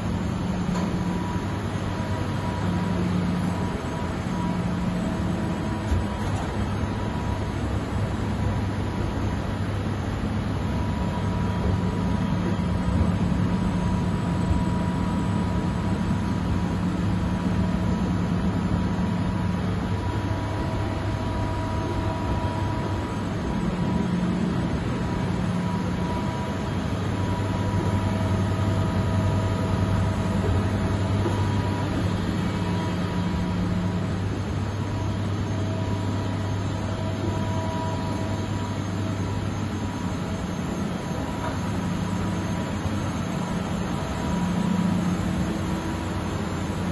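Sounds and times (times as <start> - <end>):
low machinery hum: 0.0 - 46.9.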